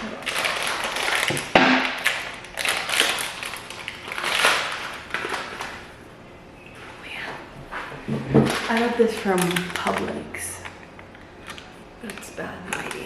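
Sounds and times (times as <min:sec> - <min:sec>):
crinkling and rustling: 0:00.0 - 0:06.0, 0:07.6 - 0:13.0.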